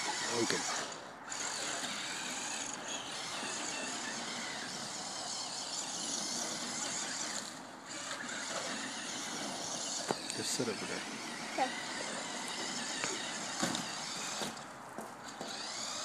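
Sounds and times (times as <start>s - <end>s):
toy truck motor whine: 0.0s - 16.0s.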